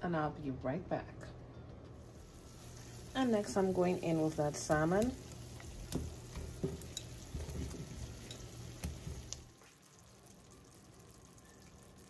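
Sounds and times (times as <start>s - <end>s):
soft sizzle in a pan: 2.0s - 12.0s.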